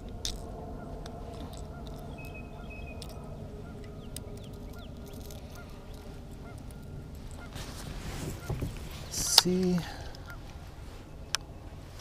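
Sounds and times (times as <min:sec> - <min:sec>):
geese honking: 0:00.0 - 0:12.0
wind and water rumble: 0:00.0 - 0:12.0.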